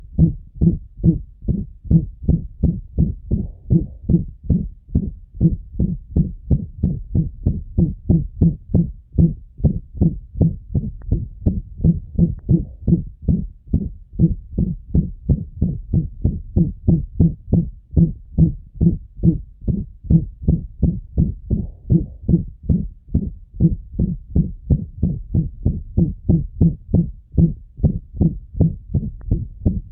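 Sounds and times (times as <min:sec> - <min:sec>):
dog heartbeat with blowing murmur: 0:00.0 - 0:29.9.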